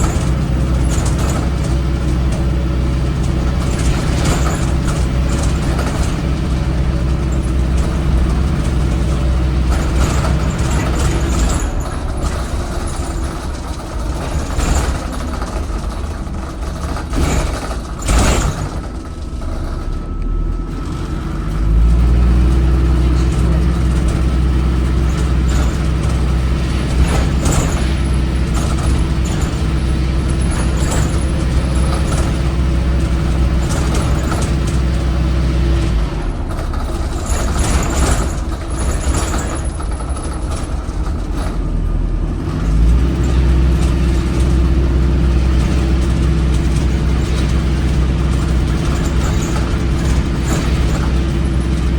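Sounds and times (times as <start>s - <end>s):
bus diesel engine under throttle: 0.0s - 51.9s.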